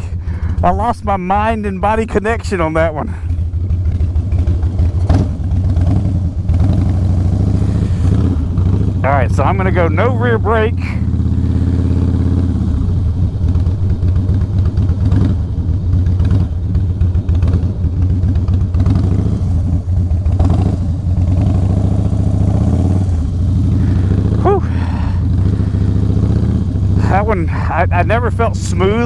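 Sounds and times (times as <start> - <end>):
motorcycle engine running slowly: 0.0 - 29.0.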